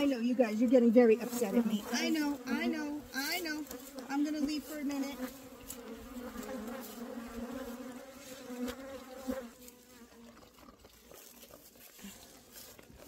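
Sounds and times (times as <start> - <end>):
honeybees buzzing: 0.0 - 12.2.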